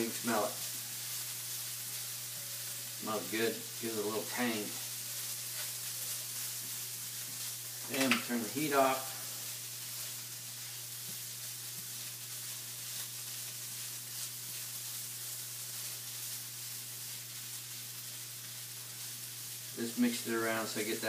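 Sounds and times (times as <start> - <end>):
food sizzling in a skillet: 0.0 - 21.0
spatula stirring in a skillet: 0.0 - 21.0.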